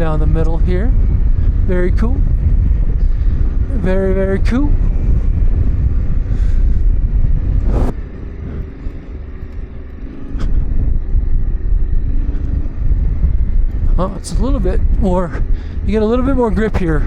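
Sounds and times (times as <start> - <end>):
motorcycle engine low rumble: 0.0 - 17.0.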